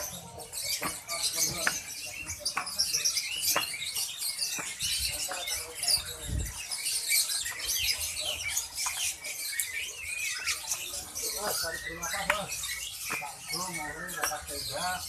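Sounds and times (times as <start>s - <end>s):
caged songbirds chirping: 0.0s - 15.0s.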